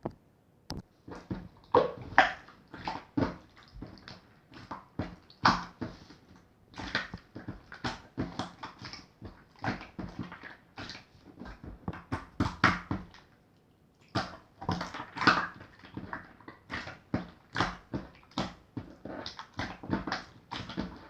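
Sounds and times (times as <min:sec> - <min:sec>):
slime squelching by hand: 0:01.0 - 0:21.0.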